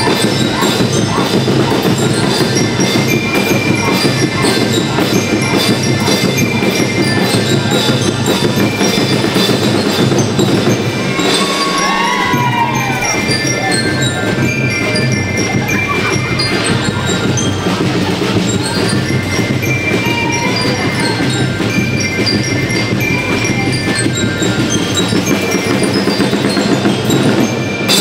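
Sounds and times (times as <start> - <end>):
bell lyres ringing melody: 0.0 - 28.0
drums keeping an even beat: 0.0 - 28.0.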